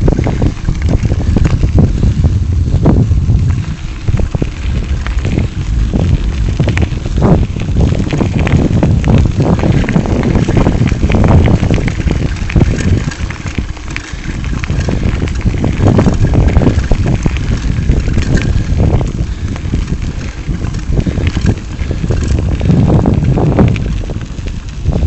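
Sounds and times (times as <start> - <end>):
bicycle rattling: 0.0 - 25.0
tyres crunching over gravel: 0.0 - 25.0
wind buffeting microphone: 0.0 - 25.0.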